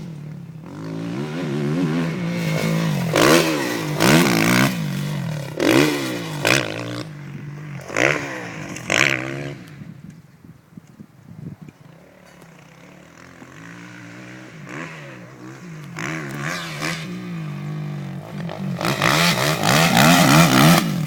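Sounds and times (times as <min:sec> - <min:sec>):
motocross bike engine revving: 0:00.0 - 0:09.8, 0:12.5 - 0:21.0.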